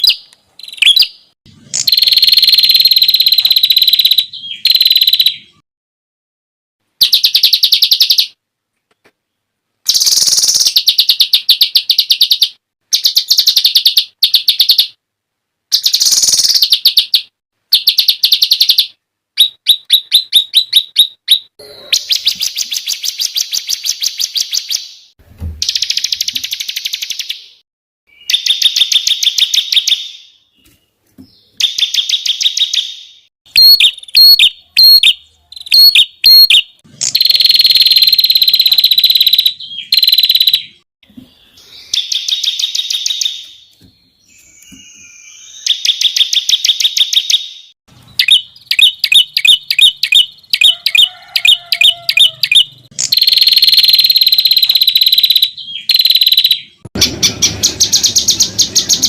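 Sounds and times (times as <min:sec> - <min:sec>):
songbird rapid-fire song: 0:00.0 - 0:05.6, 0:06.9 - 0:08.4, 0:09.3 - 0:15.0, 0:15.7 - 0:59.0.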